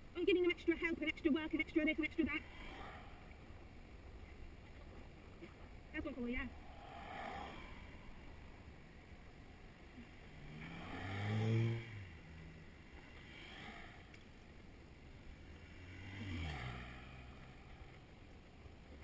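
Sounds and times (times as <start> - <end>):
cars passing close by: 0.0 - 5.1, 6.0 - 19.0
road and wind noise: 0.0 - 19.0.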